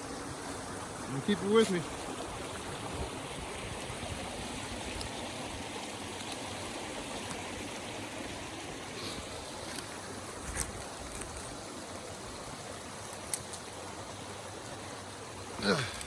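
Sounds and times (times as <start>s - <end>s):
stream water running over rocks: 0.0s - 16.0s.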